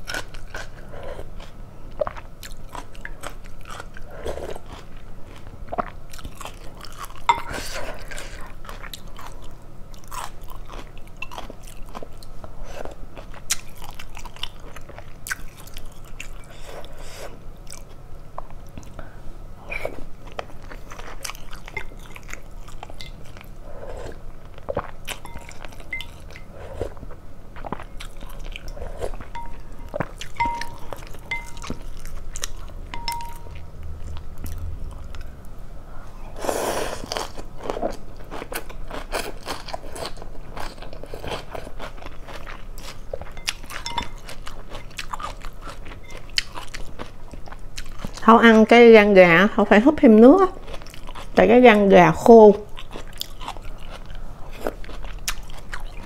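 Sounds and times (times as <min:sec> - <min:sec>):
chewing and crunching: 0:00.0 - 0:19.1, 0:19.7 - 0:35.6, 0:36.7 - 0:48.6, 0:50.3 - 0:56.0.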